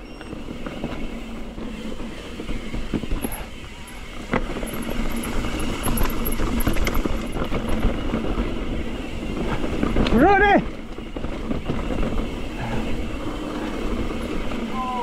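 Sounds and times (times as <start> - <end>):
bike knocking and rattling: 0.0 - 15.0
bike tyres rumbling on dirt: 0.0 - 15.0.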